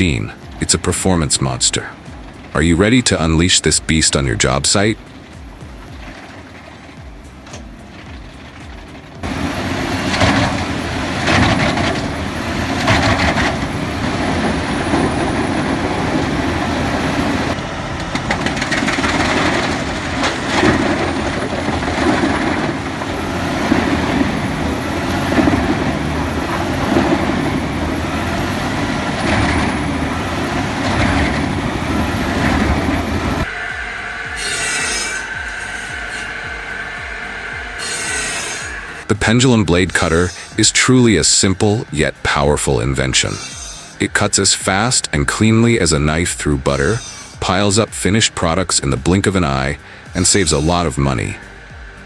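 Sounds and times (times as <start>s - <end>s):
wood chipper chipping logs: 0.0s - 52.0s.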